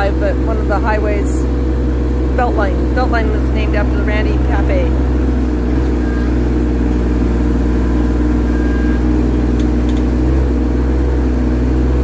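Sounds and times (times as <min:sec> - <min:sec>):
excavator engine droning: 0:00.0 - 0:12.0.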